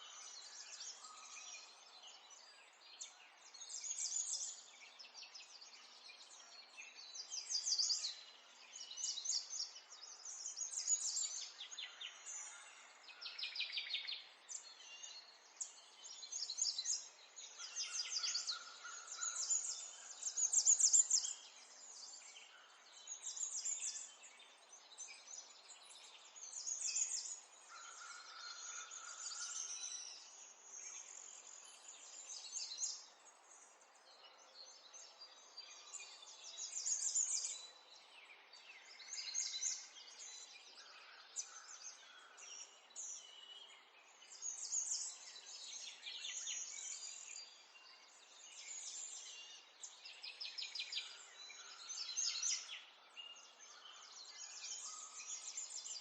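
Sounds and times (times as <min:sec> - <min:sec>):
songbirds trilling and chirping: 0:00.0 - 0:56.0.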